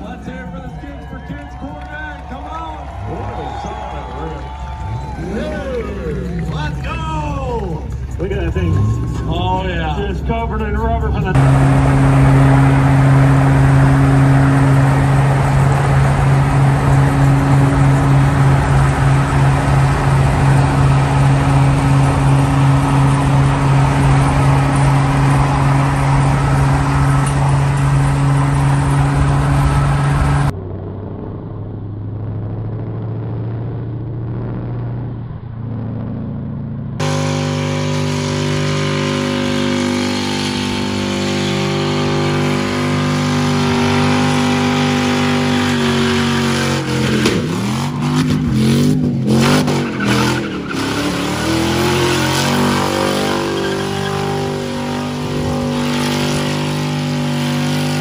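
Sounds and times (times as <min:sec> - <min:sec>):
car engine at high revs: 0:00.0 - 0:58.0.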